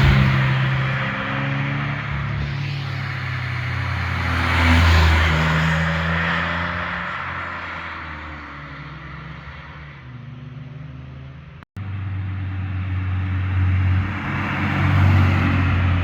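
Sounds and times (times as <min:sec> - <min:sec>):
car passing: 0:00.0 - 0:16.0
deep car engine approaching: 0:00.0 - 0:16.0.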